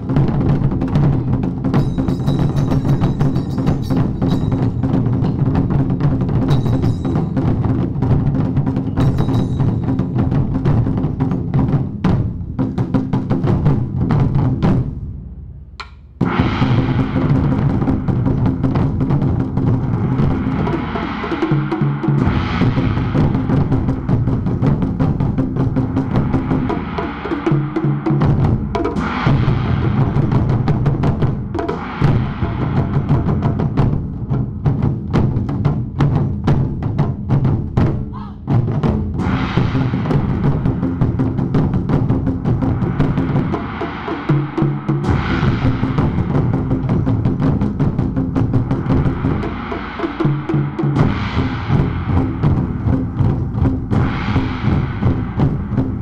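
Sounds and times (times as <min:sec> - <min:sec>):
taiko drums struck in fast rhythm: 0:00.0 - 0:56.0.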